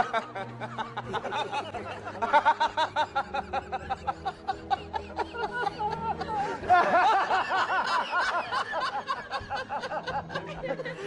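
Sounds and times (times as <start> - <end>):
background music with held notes: 0.0 - 11.0
men laughing hard: 0.0 - 11.0.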